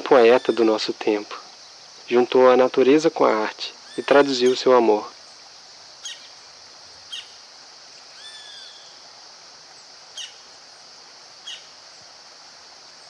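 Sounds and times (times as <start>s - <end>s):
small birds chirping: 0.0s - 12.2s
steady high outdoor hiss: 0.0s - 13.0s.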